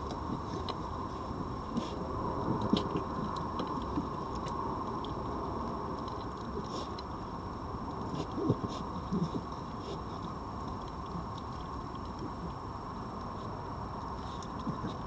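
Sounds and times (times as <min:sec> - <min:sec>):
background hum: 0:00.0 - 0:15.0
foxes chewing: 0:00.1 - 0:15.0.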